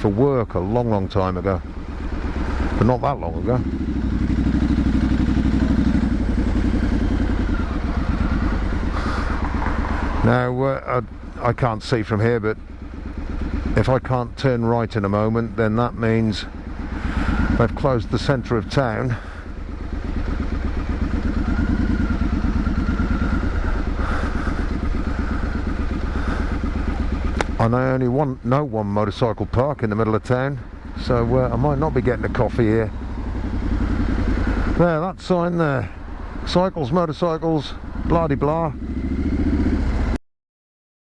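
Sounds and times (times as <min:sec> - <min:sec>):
motorcycle engine running: 0:00.0 - 0:40.2.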